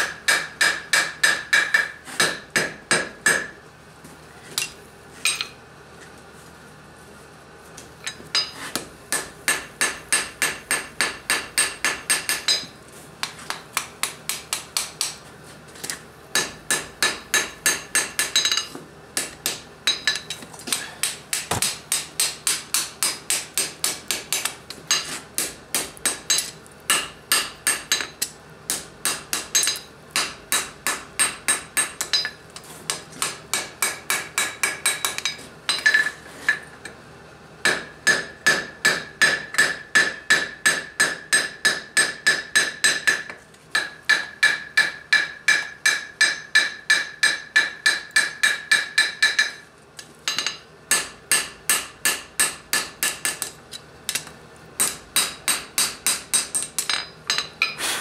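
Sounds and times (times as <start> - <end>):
hammer striking steel on anvil: 0.0 - 3.6, 8.1 - 15.2, 16.3 - 36.6, 37.6 - 49.6, 50.3 - 57.8.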